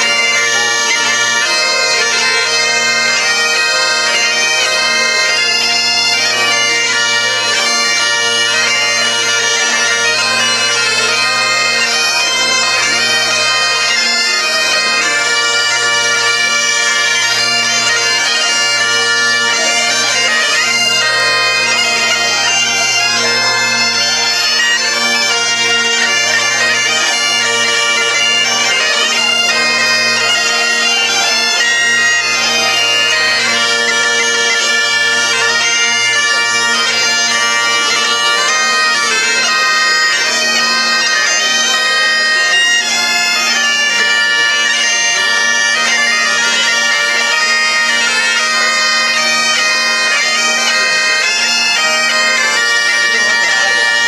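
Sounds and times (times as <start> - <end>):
bagpipes playing a tune: 0.0 - 54.0.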